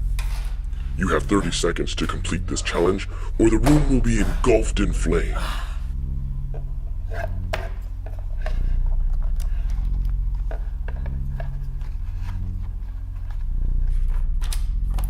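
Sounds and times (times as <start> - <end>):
low droning background music: 0.0 - 15.0.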